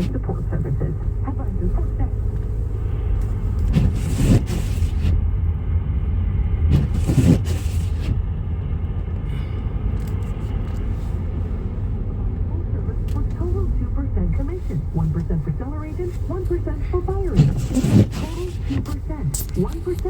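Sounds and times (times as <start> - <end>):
car road rumble from inside: 0.0 - 20.0.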